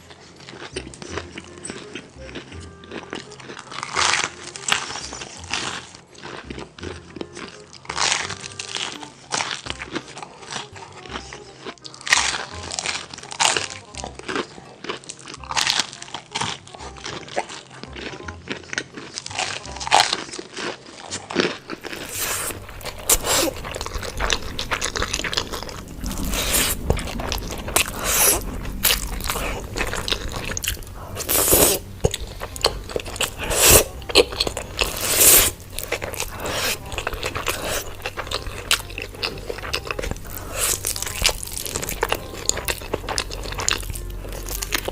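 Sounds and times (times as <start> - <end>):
person crunching food: 0.0 - 44.9.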